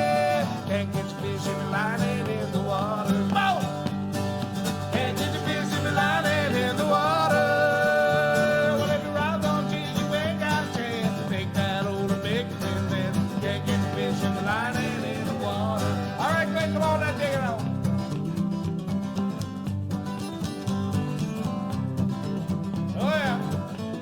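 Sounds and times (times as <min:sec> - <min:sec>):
country song singing: 0:00.0 - 0:24.0
guitar accompaniment: 0:00.0 - 0:24.0.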